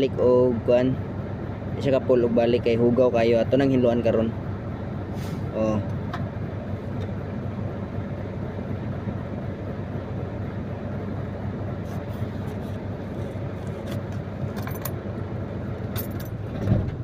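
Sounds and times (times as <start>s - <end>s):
truck diesel engine idling: 0.0s - 16.5s.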